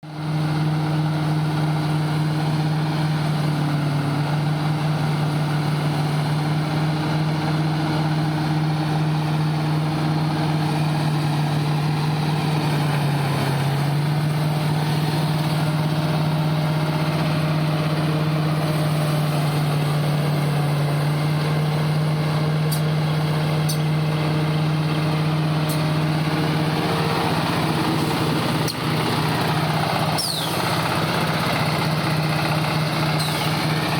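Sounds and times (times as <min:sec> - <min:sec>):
baler machine humming: 0:00.3 - 0:33.9.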